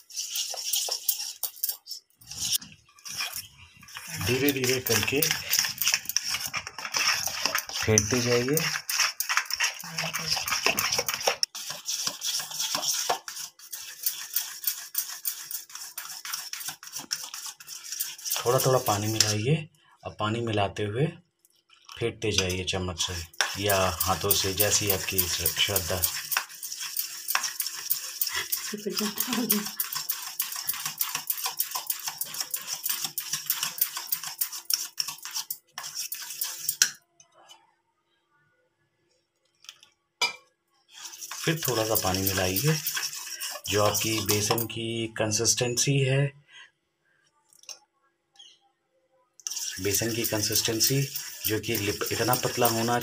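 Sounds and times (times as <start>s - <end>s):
spoon beating batter in metal bowl: 0.0s - 19.5s, 21.8s - 37.0s, 39.6s - 45.0s, 49.4s - 53.0s.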